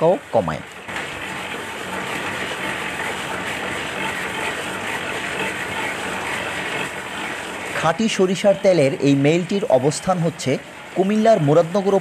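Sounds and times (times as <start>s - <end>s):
oil press machine running: 0.0s - 12.0s.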